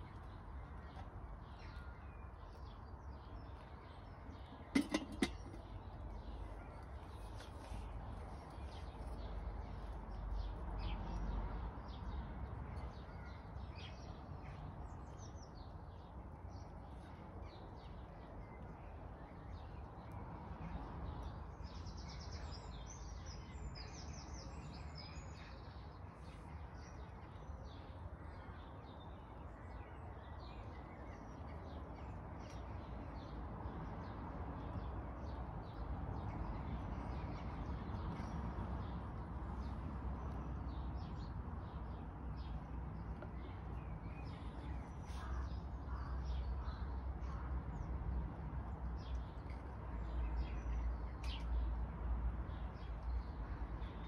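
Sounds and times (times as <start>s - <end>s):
small birds chirping and singing: 5.4s - 54.0s.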